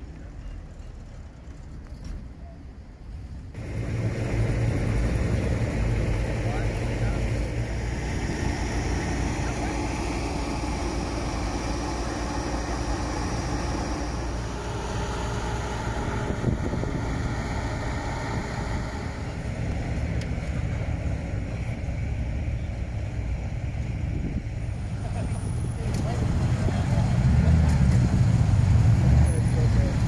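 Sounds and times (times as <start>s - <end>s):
car exhaust rumble: 3.2s - 30.0s.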